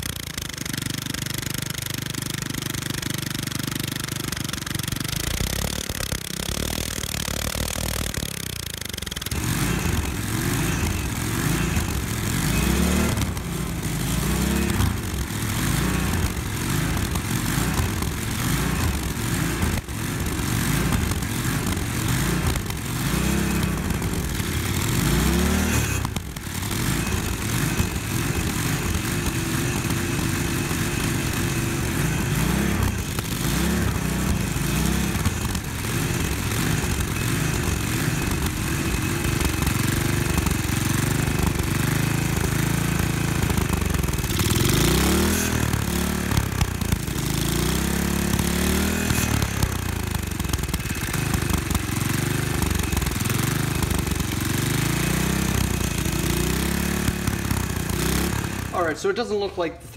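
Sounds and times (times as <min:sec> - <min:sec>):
small gas engine revving: 0:00.0 - 0:59.9.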